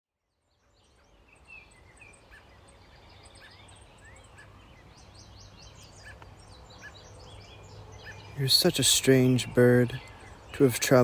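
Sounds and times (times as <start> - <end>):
birds chirping: 0.6 - 11.0.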